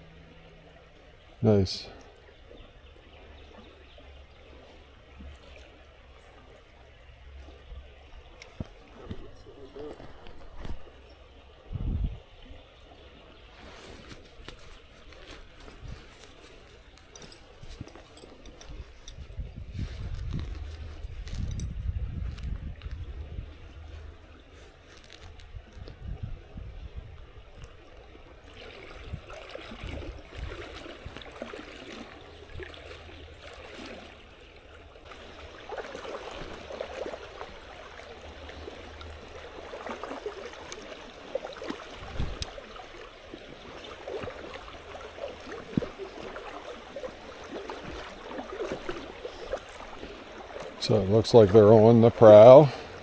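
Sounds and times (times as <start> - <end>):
creek water flowing: 0.0 - 53.0.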